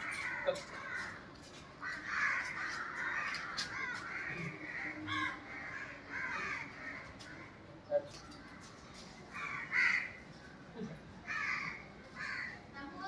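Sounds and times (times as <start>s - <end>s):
crows cawing: 0.0s - 7.6s, 8.5s - 10.3s, 11.2s - 12.7s.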